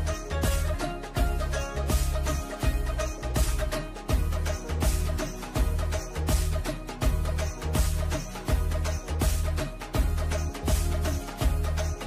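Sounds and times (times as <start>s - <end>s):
background music with bass beat: 0.0s - 12.0s.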